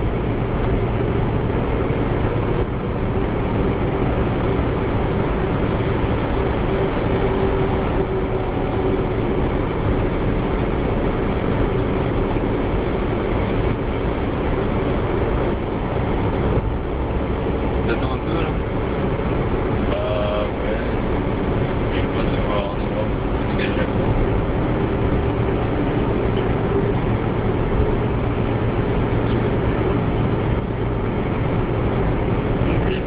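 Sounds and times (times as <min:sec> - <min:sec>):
car interior road noise: 0:00.0 - 0:33.0.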